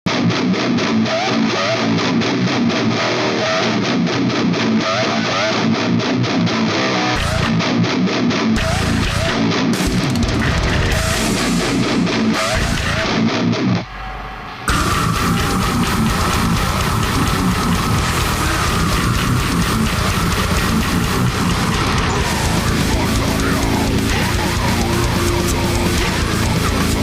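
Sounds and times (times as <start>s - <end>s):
guitar background music: 0.1s - 27.0s.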